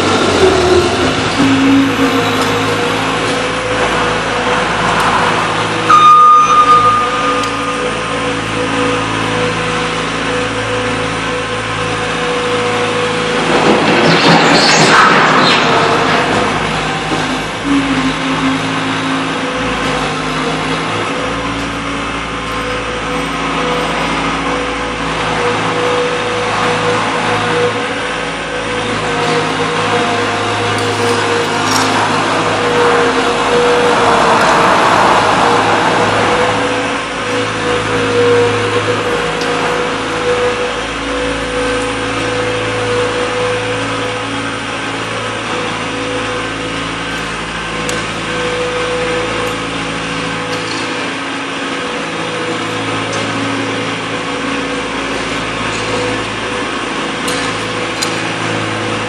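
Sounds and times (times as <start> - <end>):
loader engine running: 0.0 - 59.0
steady whine: 0.0 - 59.0.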